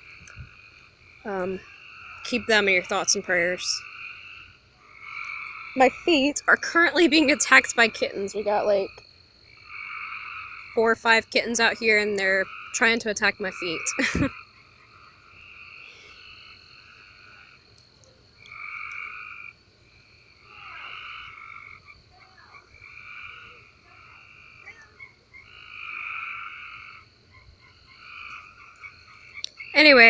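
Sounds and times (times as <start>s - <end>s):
frogs trilling: 0.0s - 30.0s.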